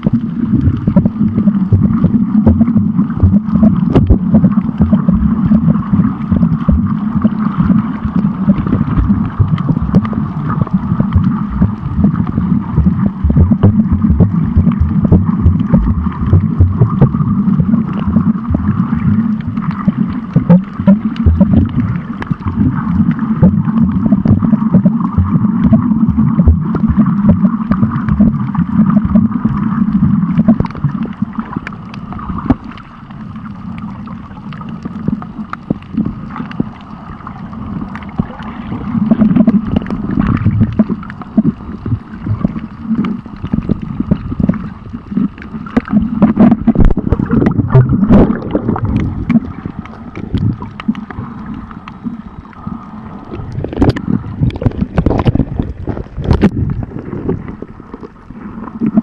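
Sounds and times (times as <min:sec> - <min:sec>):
small underwater crackles: 0:00.0 - 0:59.0
underwater churning rumble: 0:00.0 - 0:59.0.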